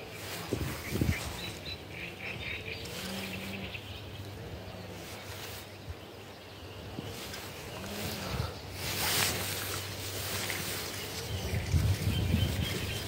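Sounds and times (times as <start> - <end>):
wind noise on microphone: 0.0 - 6.0, 6.8 - 13.0
small birds chirping: 0.0 - 13.0.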